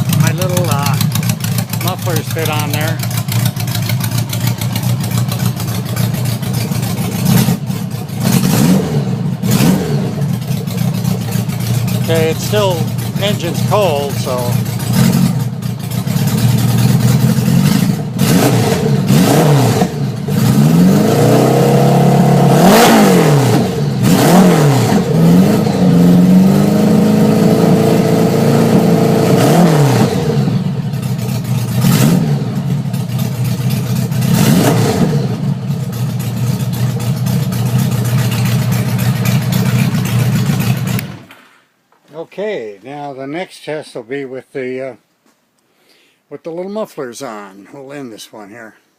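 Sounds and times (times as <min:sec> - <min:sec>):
motorcycle engine revving and idling: 0:00.0 - 0:41.4.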